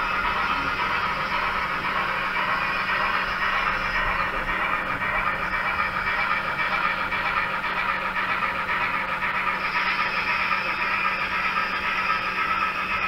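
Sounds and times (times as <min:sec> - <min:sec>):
model trains rolling hum: 0:00.0 - 0:13.0.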